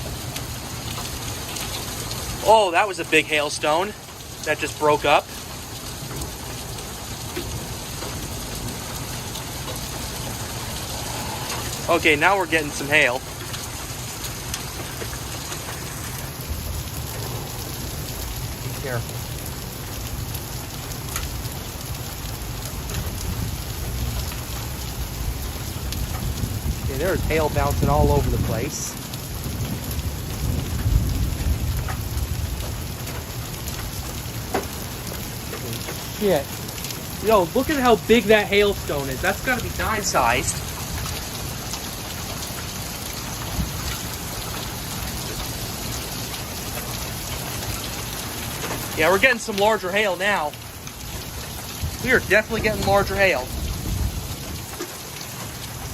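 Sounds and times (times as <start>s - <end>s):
hailstones striking: 0.0s - 55.9s
heavy rain hissing: 0.0s - 55.9s.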